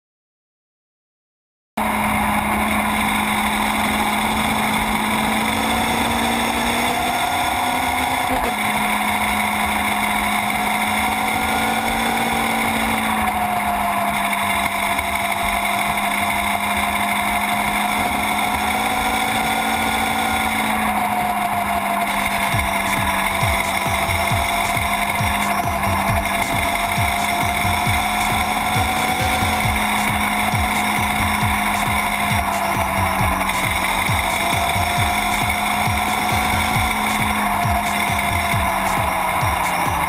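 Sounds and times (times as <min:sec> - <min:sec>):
motorcycle engine running: 0:01.8 - 0:40.0
wind and road noise: 0:01.8 - 0:40.0.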